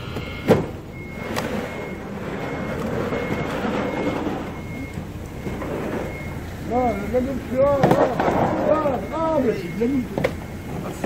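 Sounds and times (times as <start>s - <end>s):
reversing alarm beeping: 0.0s - 11.0s.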